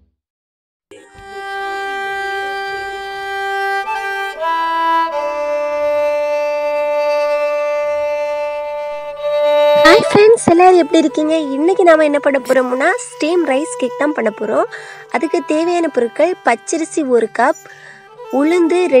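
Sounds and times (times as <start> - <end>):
slow music of long held notes: 0.9 - 19.0.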